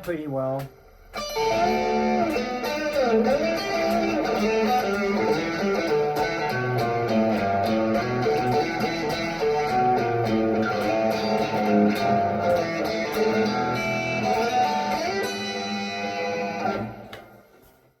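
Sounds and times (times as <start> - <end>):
overdriven electric guitar: 0.6 - 17.6.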